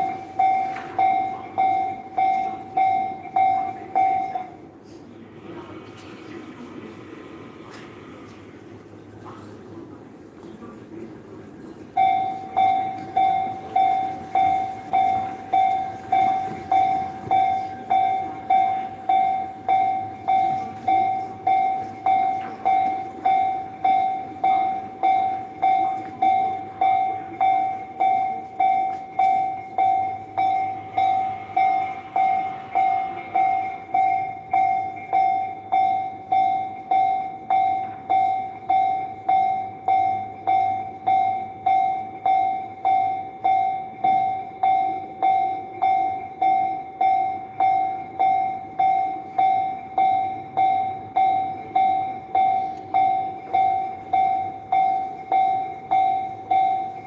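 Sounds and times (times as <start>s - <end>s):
railroad crossing bell clanging: 0.0s - 4.7s, 11.9s - 57.0s
train passing: 0.0s - 57.0s.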